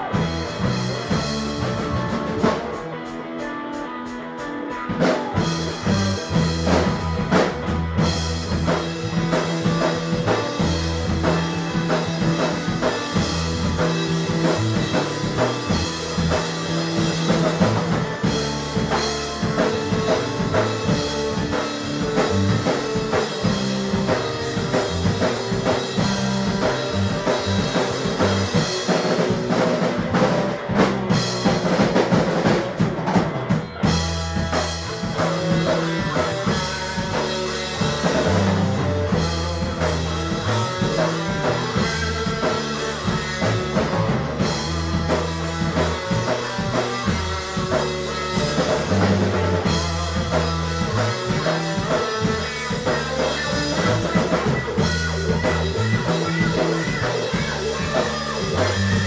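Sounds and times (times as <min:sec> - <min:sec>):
bass notes: 0:00.0 - 0:59.0
drum kit: 0:00.0 - 0:59.0
electric guitar: 0:00.0 - 0:59.0.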